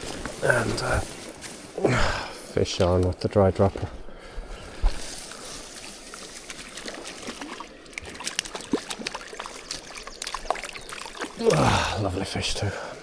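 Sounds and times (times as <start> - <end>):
river water trickling and sloshing: 0.0 - 13.0.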